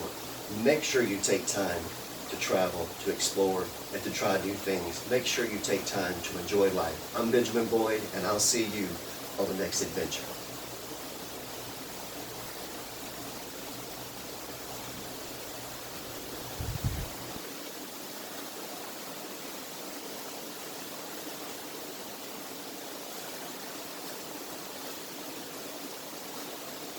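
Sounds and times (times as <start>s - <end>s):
rushing water of stream: 0.0s - 26.9s.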